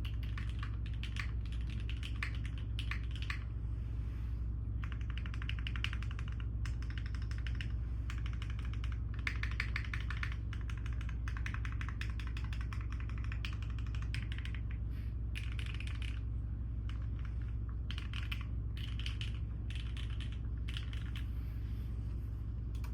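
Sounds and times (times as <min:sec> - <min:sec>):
typing on mechanical keyboard: 0:00.0 - 0:03.4, 0:04.8 - 0:14.8, 0:15.4 - 0:16.2, 0:16.8 - 0:21.3
steady low hum: 0:00.0 - 0:22.9.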